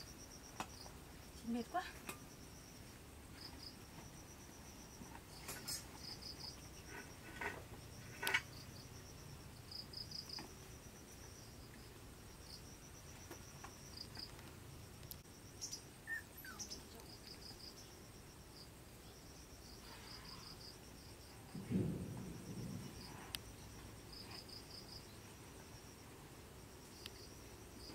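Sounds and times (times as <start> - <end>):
insects chirping in pulsed trills: 0.0 - 27.9.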